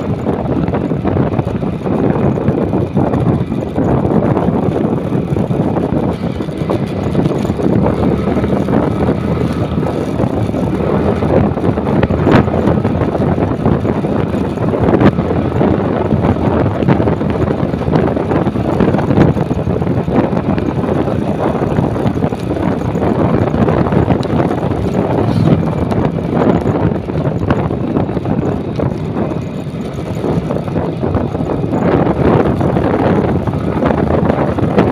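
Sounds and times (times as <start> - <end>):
motorcycle engine running: 0.0 - 34.9
wind buffeting microphone: 0.0 - 34.9.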